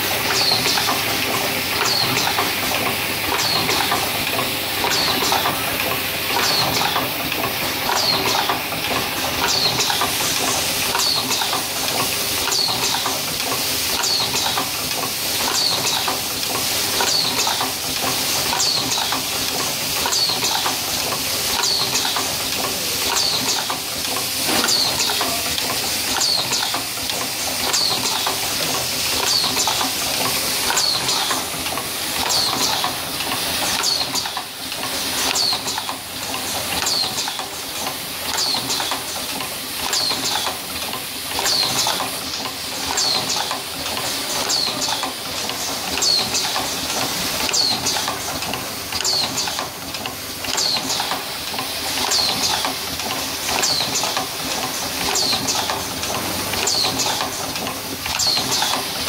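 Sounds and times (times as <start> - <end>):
machine rattling metal parts: 0.0 - 59.0.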